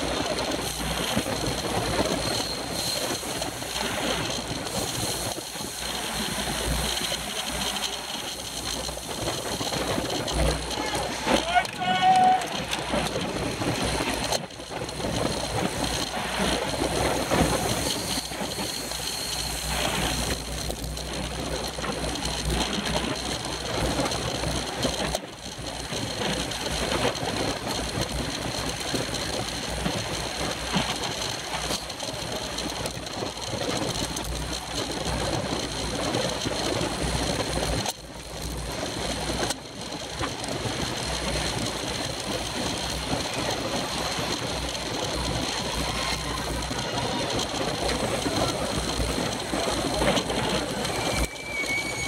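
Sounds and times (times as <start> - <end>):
tyre and road rumble: 0.0 - 52.0
wind rushing over microphone: 0.0 - 52.0.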